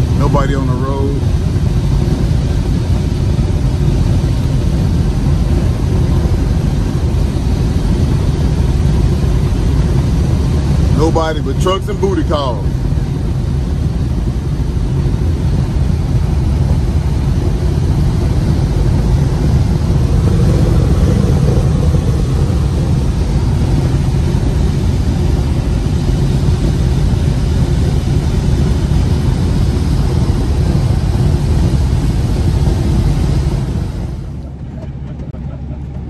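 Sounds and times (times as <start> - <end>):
road and wind noise: 0.0 - 36.0
truck diesel engine running: 0.0 - 36.0.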